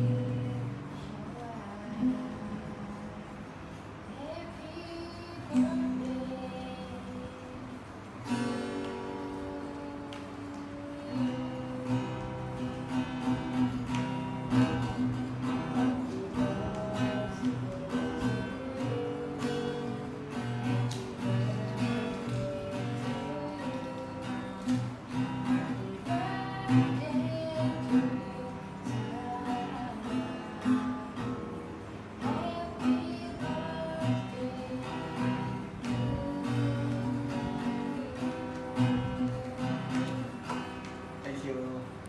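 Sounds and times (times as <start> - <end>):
strummed acoustic guitar: 0.0 - 42.0.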